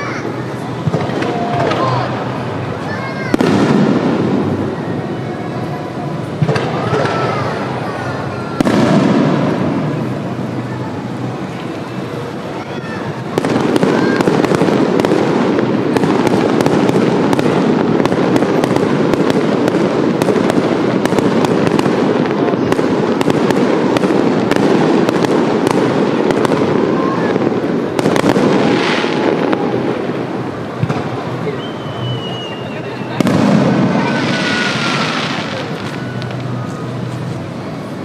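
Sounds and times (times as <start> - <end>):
fireworks booming and crackling: 0.0 - 38.0.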